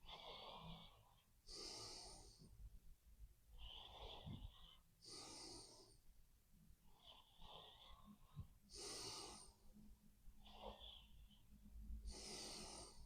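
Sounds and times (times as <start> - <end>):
sleeping person breathing: 0.0 - 2.7, 3.5 - 6.1, 6.8 - 13.0.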